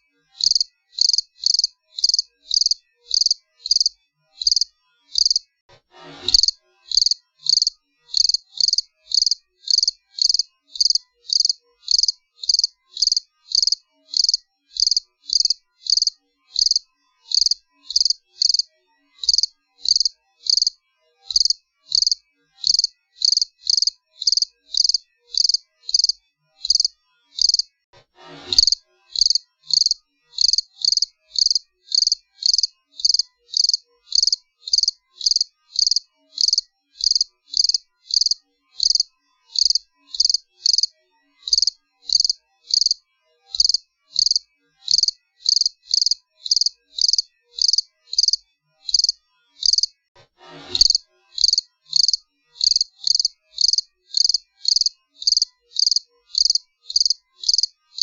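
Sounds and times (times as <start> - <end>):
cricket chirping: 0.4 - 5.4, 6.4 - 18.7, 19.3 - 27.7, 28.6 - 40.9, 41.5 - 43.0, 43.6 - 49.9, 50.8 - 58.0.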